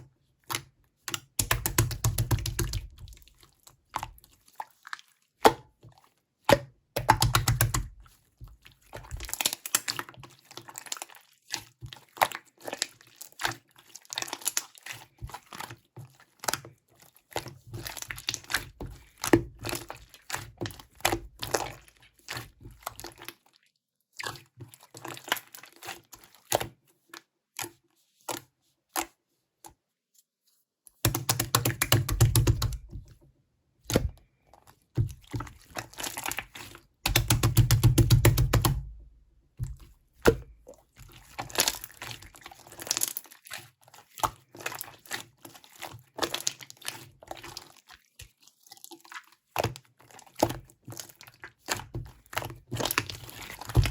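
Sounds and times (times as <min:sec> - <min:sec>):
slime squishing and crackling: 0:00.5 - 0:05.3, 0:07.0 - 0:23.5, 0:24.2 - 0:26.7, 0:33.9 - 0:53.9.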